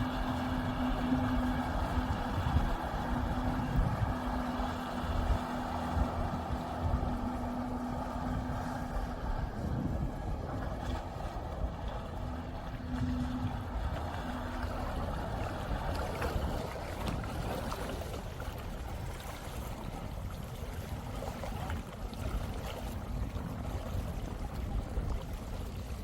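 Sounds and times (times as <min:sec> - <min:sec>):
jet ski engine on water: 0:00.0 - 0:26.0.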